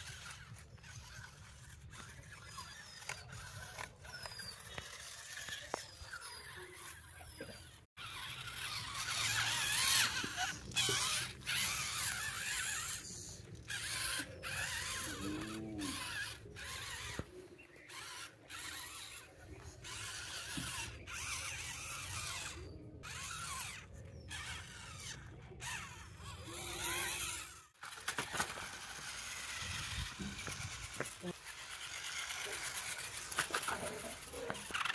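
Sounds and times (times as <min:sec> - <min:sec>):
toy truck electric motor whirring: 0:00.0 - 0:34.9.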